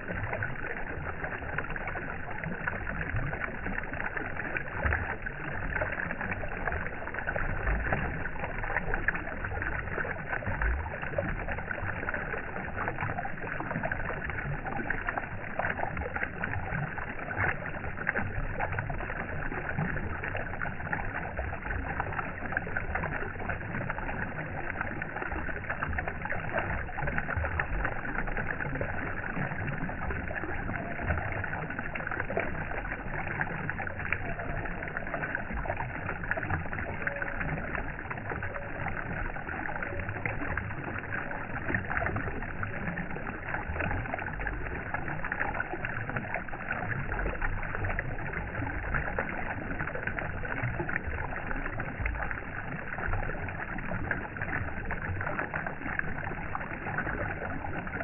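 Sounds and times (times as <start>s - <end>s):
water rushing and splashing: 0.0s - 58.0s.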